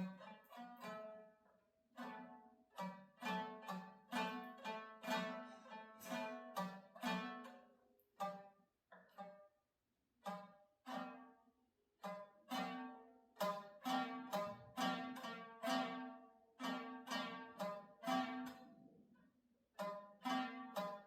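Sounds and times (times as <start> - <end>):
plucked string notes: 0.0 - 1.3, 2.0 - 9.4, 10.2 - 11.4, 12.0 - 19.1, 19.8 - 21.0.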